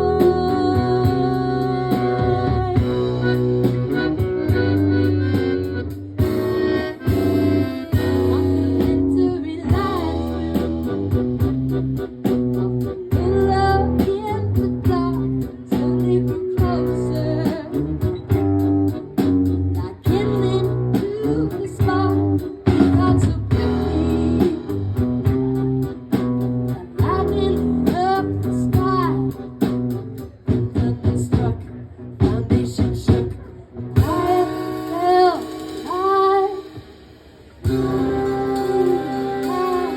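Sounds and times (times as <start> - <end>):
guitar playing: 0.0 - 30.8, 37.6 - 39.9
bass playing: 0.0 - 36.5, 37.6 - 39.9.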